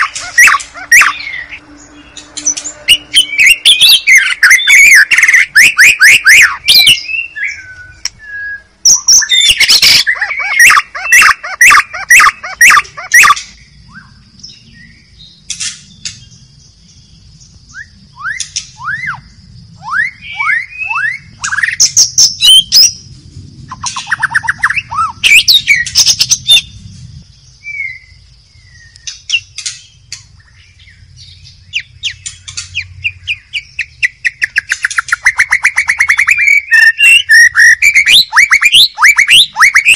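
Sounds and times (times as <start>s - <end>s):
songbird singing varied phrases: 0.0s - 23.1s, 23.7s - 39.9s.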